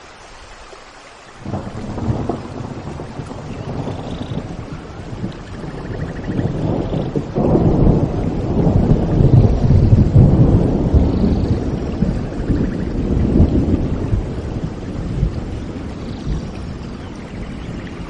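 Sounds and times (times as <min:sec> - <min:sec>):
steady rain: 0:00.0 - 0:18.0
thunder rolling: 0:01.4 - 0:18.0.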